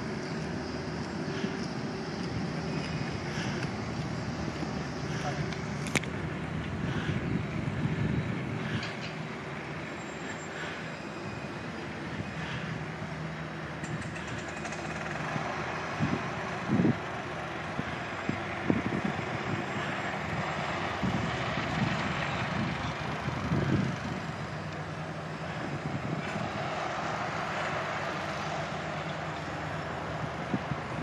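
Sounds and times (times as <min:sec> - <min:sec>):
road traffic rumble: 0:00.0 - 0:31.0
tram rolling: 0:00.0 - 0:31.0.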